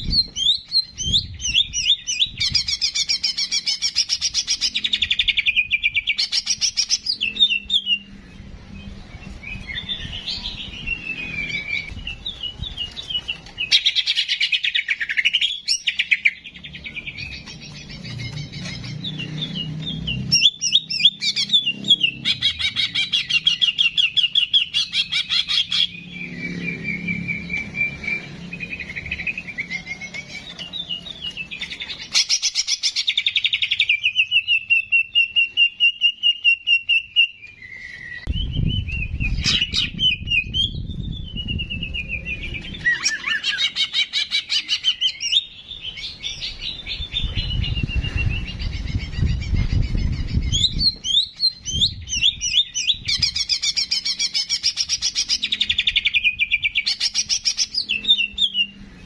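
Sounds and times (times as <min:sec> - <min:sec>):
songbird trilling: 0:09.2 - 0:58.8.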